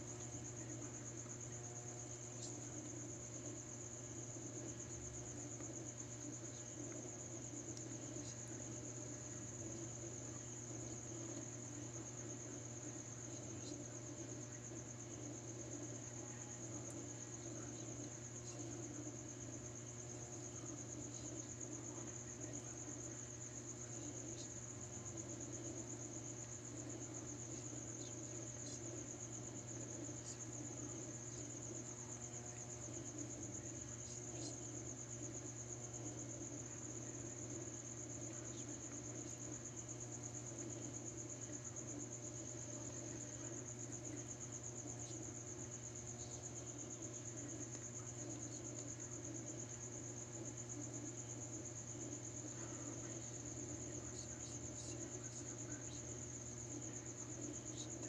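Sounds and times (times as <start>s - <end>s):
crickets chirping: 0.0s - 58.0s
low steady hum: 0.0s - 58.0s.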